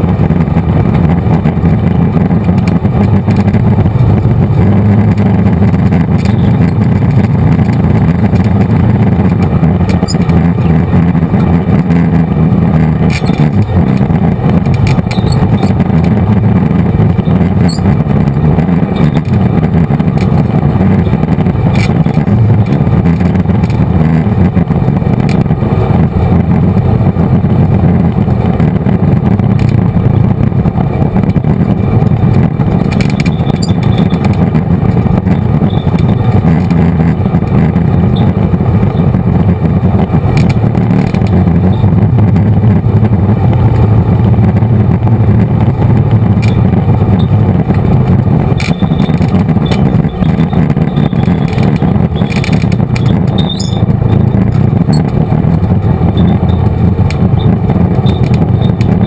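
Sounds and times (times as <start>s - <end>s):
clicks and rattles on rough trail: 0.0s - 59.0s
off-road vehicle engine running: 0.0s - 59.0s.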